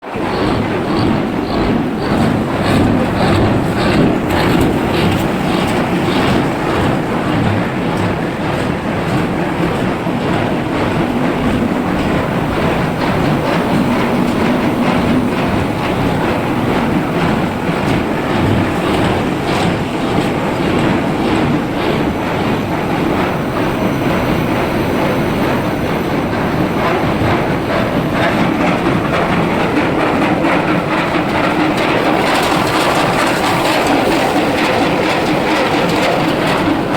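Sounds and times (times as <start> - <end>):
machinery clattering: 0.0 - 36.9
steady mechanical noise: 0.0 - 36.9.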